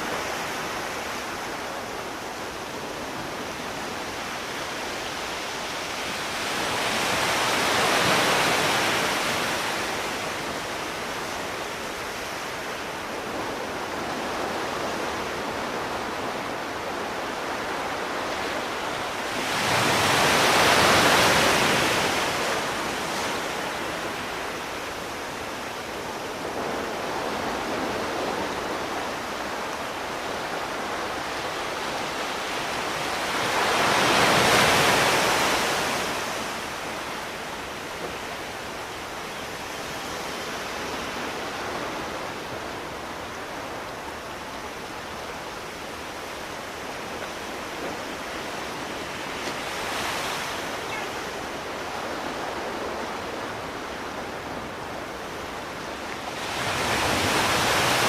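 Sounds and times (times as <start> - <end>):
sea surf washing in: 0.0 - 58.0.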